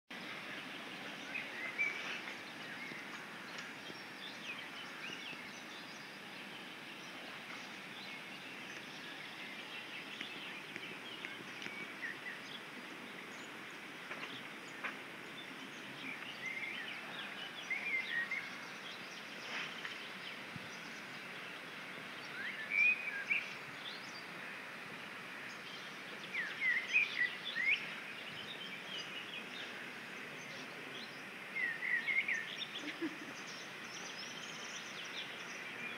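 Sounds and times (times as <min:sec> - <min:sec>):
background hiss: 0:00.1 - 0:35.9
songbirds chirping: 0:00.1 - 0:35.9.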